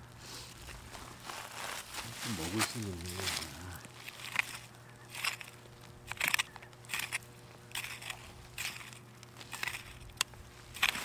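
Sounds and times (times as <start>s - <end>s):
hand hoes scraping soil: 0.3s - 11.0s.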